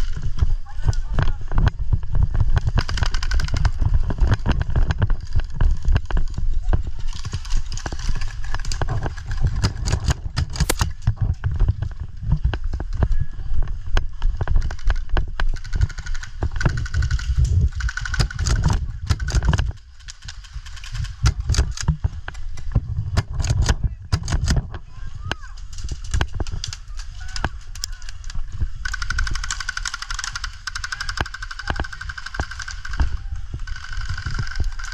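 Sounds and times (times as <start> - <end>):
wind rumbling on microphone: 0.0 - 34.9
sharp clicks and knocks: 0.9 - 13.1, 13.8 - 34.9.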